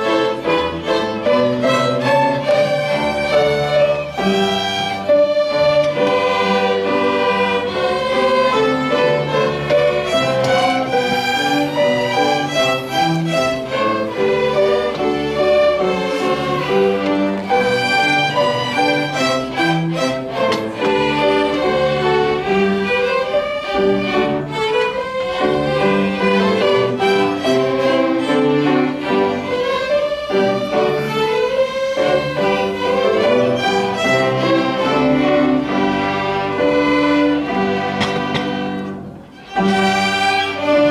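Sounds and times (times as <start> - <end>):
bowed string music: 0.0 - 40.9.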